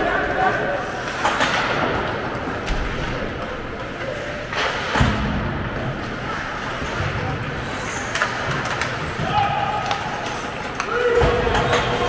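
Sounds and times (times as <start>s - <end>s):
arena crowd hubbub: 0.0s - 12.0s.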